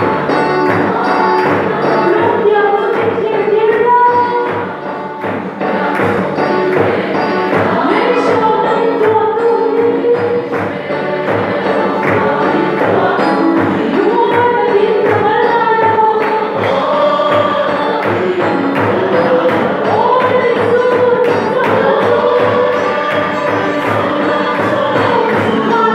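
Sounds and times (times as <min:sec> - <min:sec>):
congregation singing a hymn: 0:00.0 - 0:25.9
drum beating steady time: 0:00.0 - 0:25.9.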